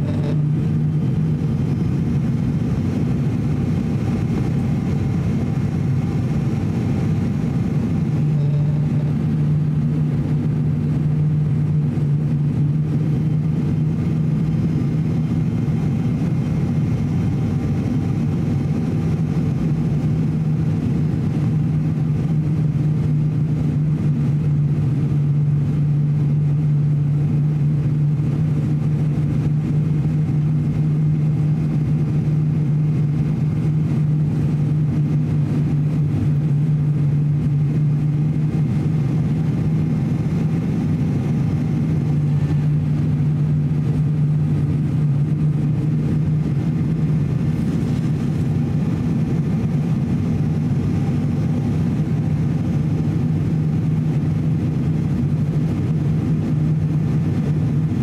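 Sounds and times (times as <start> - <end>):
turboprop engine drone: 0.0 - 58.0.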